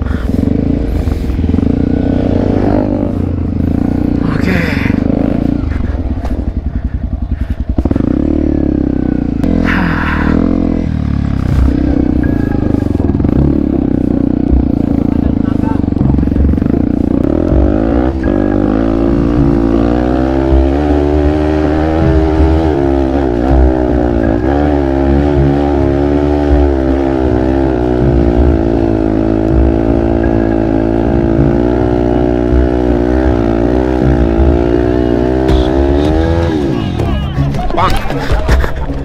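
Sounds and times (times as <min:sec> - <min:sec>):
motorcycle engine revving: 0:00.0 - 0:38.2.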